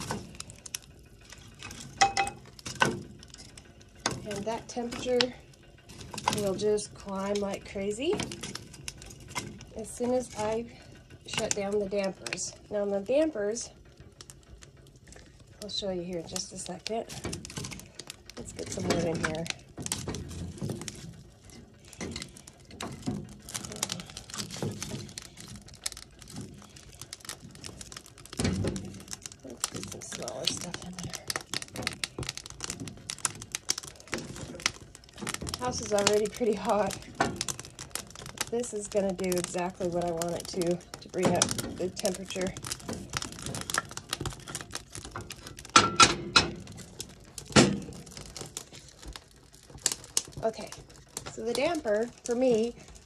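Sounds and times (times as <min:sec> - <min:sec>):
crackling coals: 0:00.0 - 0:53.0
wood sticks clattering in stove: 0:00.0 - 0:53.0.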